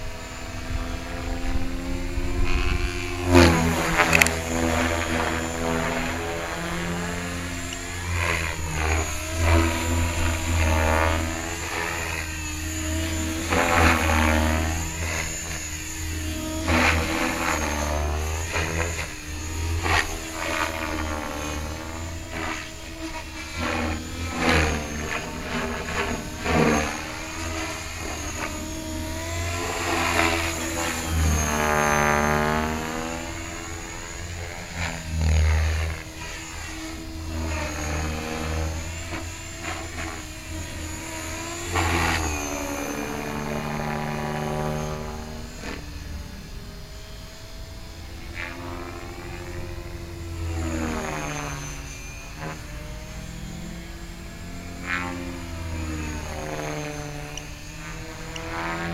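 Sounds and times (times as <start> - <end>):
rc helicopter motor whine: 0.0 - 58.9
rotor blade rush: 0.0 - 58.9.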